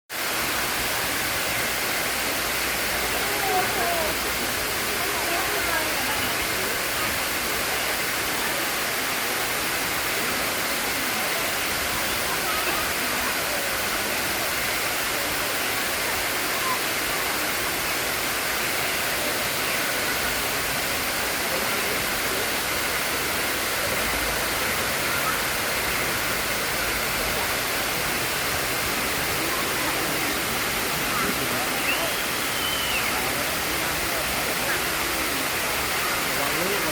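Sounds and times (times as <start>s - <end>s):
waterfall roaring: 0.2s - 36.9s.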